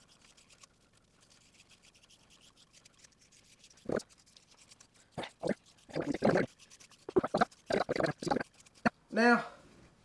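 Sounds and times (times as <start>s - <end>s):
tape crackling and rubbing: 0.0s - 9.0s.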